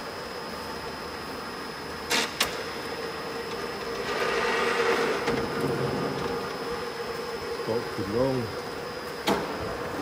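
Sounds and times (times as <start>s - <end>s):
motor hum: 0.0s - 10.0s.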